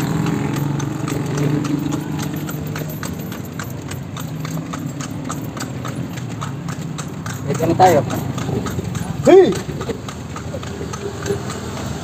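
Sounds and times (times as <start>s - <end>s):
hooves clip-clopping on pavement: 0.0s - 12.0s
low carriage rumble: 0.0s - 12.0s.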